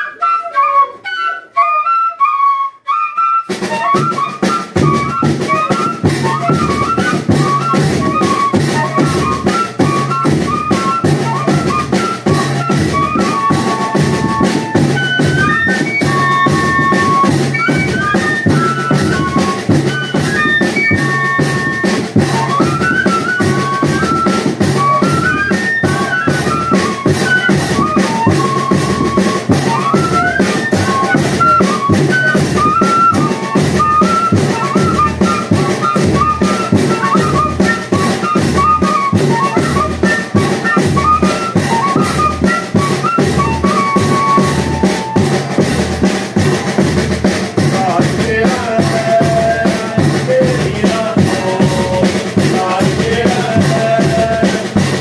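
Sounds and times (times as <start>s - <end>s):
fife melody: 0.0s - 55.0s
bass drum and snare drum beat: 3.5s - 55.0s.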